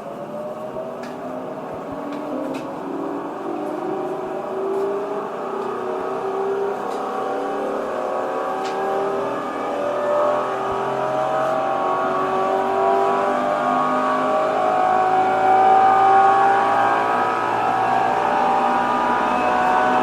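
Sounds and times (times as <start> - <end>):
electric train motor whine rising: 0.0 - 20.0.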